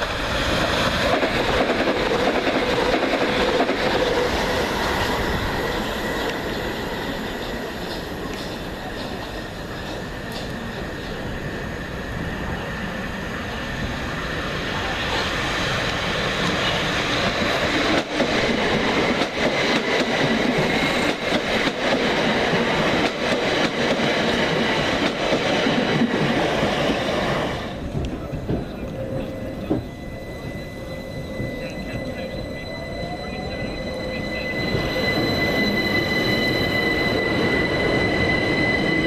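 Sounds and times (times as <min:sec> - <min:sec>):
train running past: 0:00.0 - 0:39.0.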